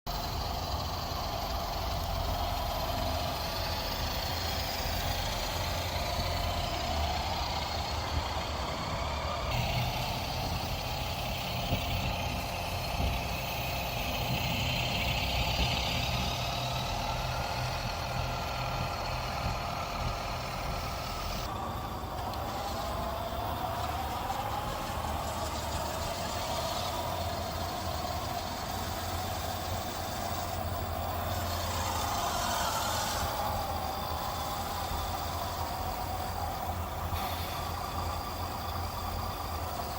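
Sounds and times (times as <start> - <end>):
toy truck drivetrain whining: 0.0 - 39.9.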